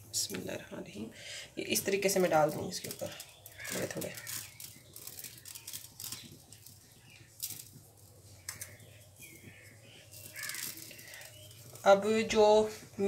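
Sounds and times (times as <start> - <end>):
seeds pattering on buns: 1.6 - 13.0.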